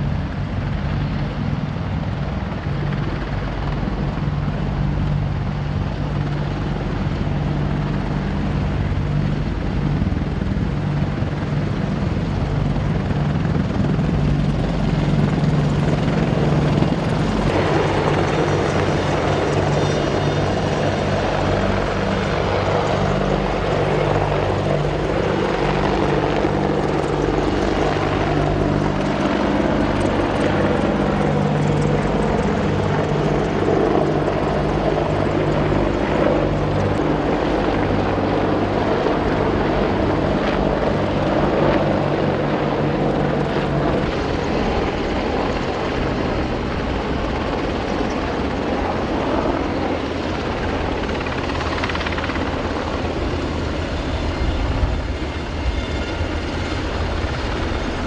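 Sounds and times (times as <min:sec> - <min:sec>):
helicopters flying by: 0:00.0 - 0:58.0.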